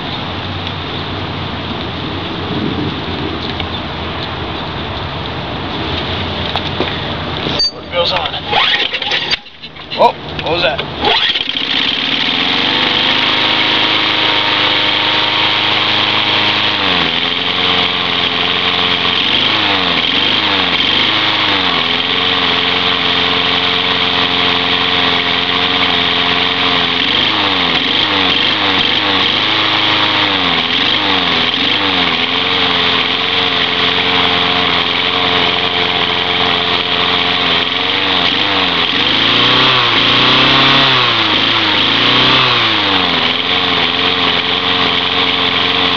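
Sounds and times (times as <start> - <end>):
lawn mower engine surging: 0.0 - 45.9.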